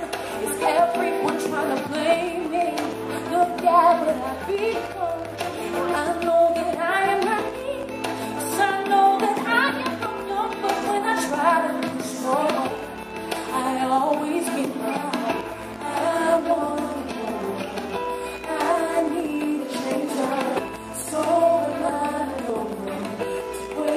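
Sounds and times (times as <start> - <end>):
band with bass: 0.0 - 23.9
woman singing: 0.0 - 23.9.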